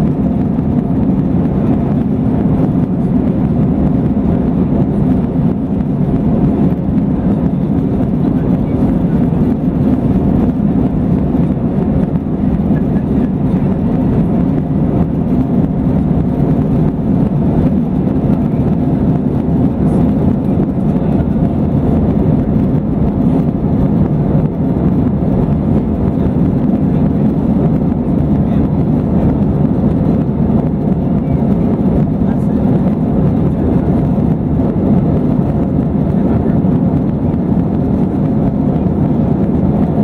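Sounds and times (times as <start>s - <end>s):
airplane cabin engine noise: 0.0s - 40.0s
rushing air: 0.0s - 40.0s.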